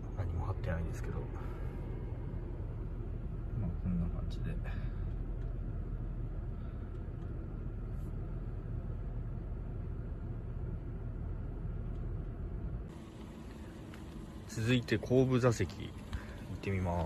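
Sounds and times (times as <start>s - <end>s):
air conditioning running: 0.0s - 17.0s
car engine idling: 0.0s - 17.0s.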